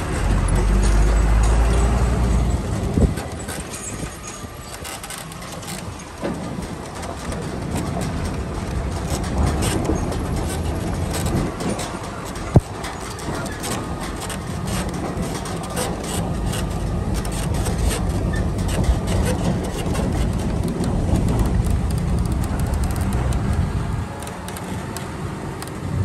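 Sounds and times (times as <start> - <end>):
diesel truck engine running: 0.0 - 4.7, 6.0 - 26.0
rattles: 0.0 - 25.8.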